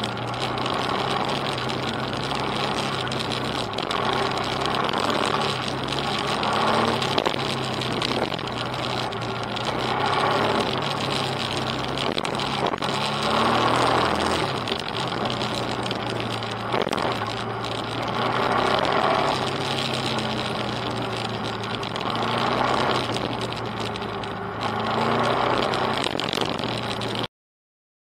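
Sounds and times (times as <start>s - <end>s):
off-road motorcycle engine: 0.0s - 27.3s.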